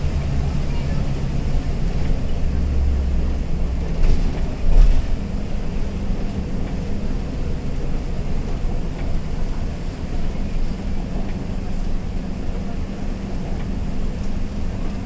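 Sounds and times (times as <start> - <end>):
bus engine drone: 0.0 - 15.0
tyres on a wet road: 0.0 - 15.0.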